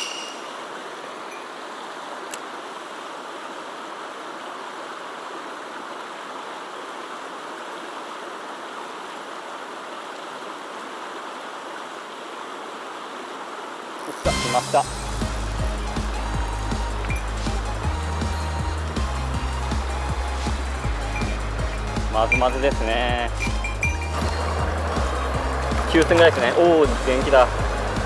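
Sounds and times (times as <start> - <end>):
stream flowing over rocks: 0.0 - 28.0.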